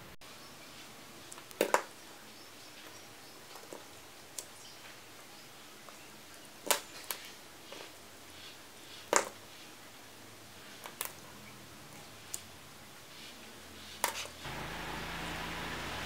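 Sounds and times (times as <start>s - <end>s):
steady hiss with low hum: 0.0s - 16.0s.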